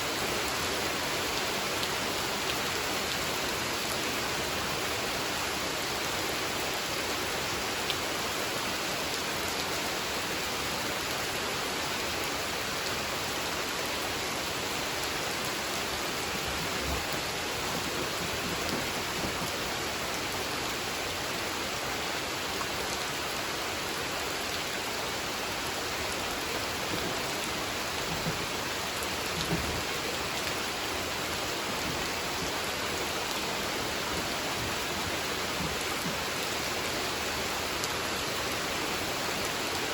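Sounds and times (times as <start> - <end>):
rain falling on a pond: 0.0 - 39.9.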